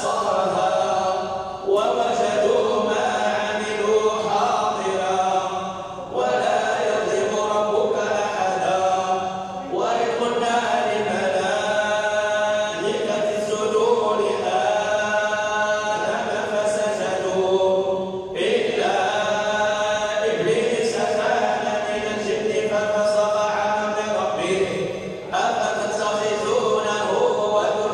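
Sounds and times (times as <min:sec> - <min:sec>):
person chanting recitation: 0:00.0 - 0:27.9.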